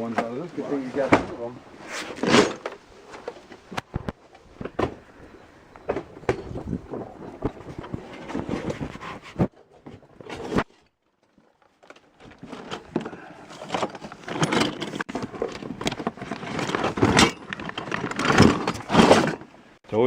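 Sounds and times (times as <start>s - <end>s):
hardware rustling: 0.1s - 19.6s.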